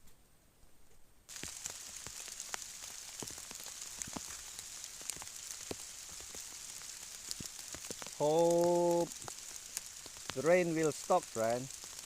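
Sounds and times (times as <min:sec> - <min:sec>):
raindrop ticks: 0:01.3 - 0:12.0
steady rain falling: 0:01.3 - 0:12.0.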